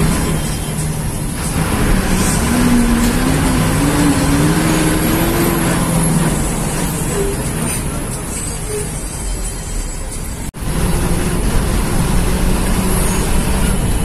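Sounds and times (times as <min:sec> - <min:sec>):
bus engine: 0:00.0 - 0:14.0
road noise: 0:00.0 - 0:14.0.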